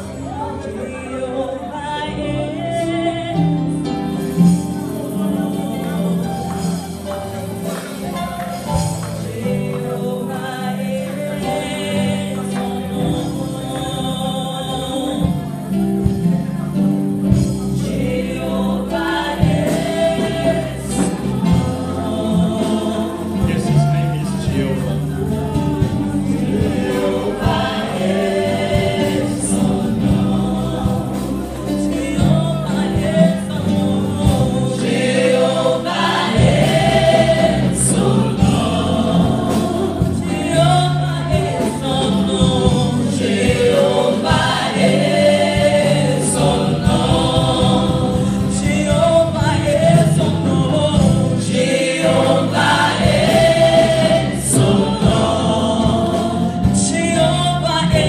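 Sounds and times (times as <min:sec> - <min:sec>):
gospel choir singing: 0:00.0 - 0:58.0
keyboard: 0:00.0 - 0:58.0
electric bass: 0:01.8 - 0:58.0.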